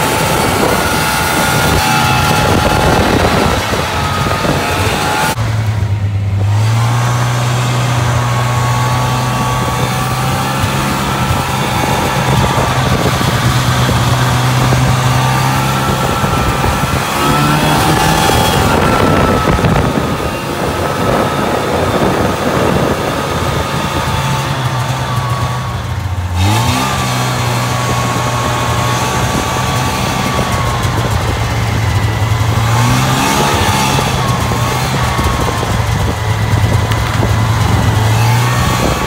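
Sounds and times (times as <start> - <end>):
snowmobile engine revving: 0.0 - 39.0
steady rushing noise: 0.0 - 39.0.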